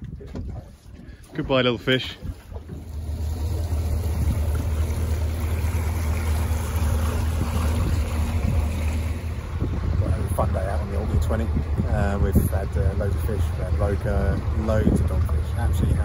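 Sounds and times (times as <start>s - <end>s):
outboard motor running: 0.1s - 16.0s
water wash: 1.1s - 16.0s.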